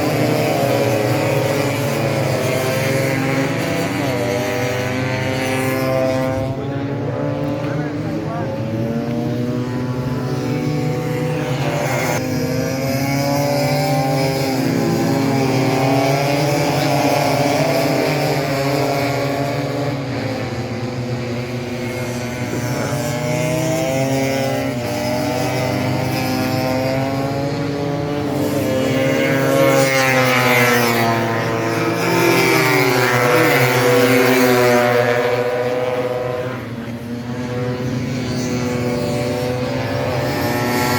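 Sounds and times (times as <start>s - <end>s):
scooter engines racing: 0.0s - 40.9s.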